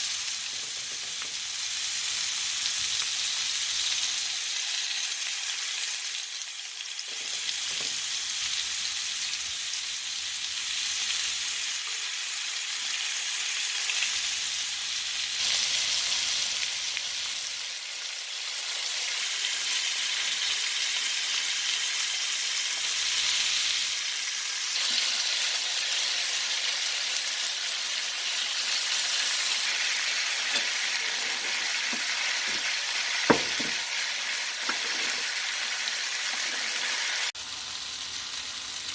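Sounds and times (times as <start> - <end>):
tomatoes sizzling in oil: 0.0 - 38.9.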